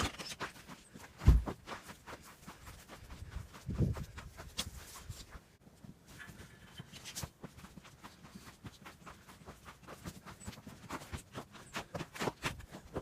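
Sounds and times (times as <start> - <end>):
footsteps crunching through snow: 0.0 - 13.0.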